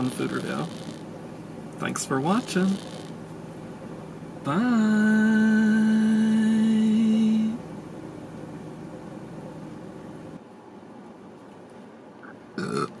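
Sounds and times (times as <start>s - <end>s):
low hum inside a car: 0.0s - 11.2s.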